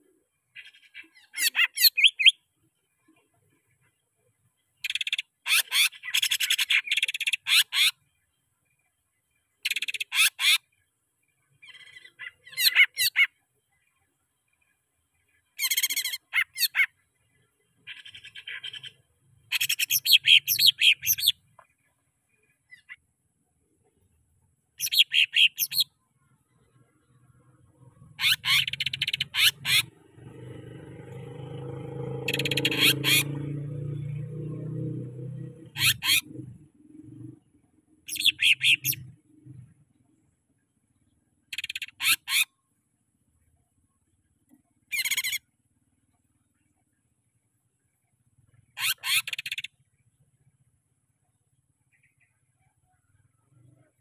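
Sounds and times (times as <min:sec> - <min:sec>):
bird warbling song: 0:00.0 - 0:08.9, 0:09.6 - 0:14.0, 0:14.6 - 0:23.1, 0:24.8 - 0:40.3, 0:41.0 - 0:42.6, 0:44.8 - 0:45.4, 0:48.5 - 0:50.1, 0:51.8 - 0:54.0.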